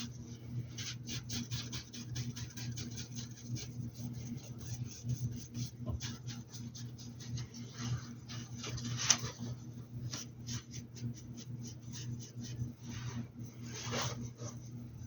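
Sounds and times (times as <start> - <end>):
low electrical hum: 0.0 - 15.0
paintbrush dabbing on fabric: 0.7 - 8.6, 10.0 - 15.0.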